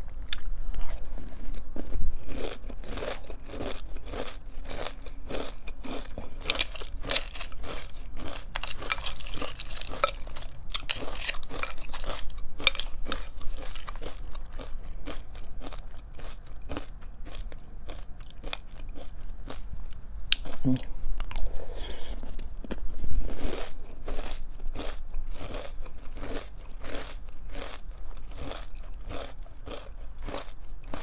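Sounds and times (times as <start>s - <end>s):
crunching and chewing cereal: 0.0s - 31.0s.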